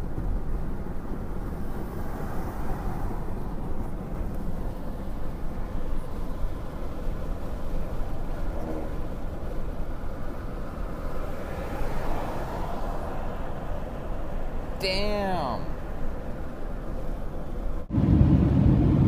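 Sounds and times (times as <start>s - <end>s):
car cabin road and engine noise: 0.0s - 19.0s.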